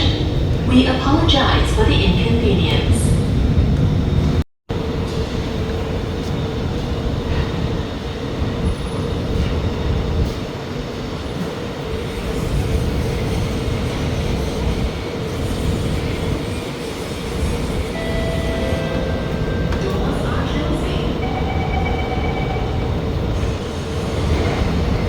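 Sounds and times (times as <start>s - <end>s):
metro train rumble: 0.0s - 25.0s.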